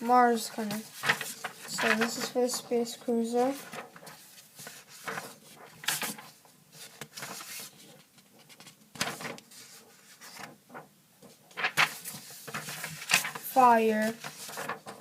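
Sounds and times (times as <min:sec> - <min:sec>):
paper rustling: 0:00.1 - 0:15.0.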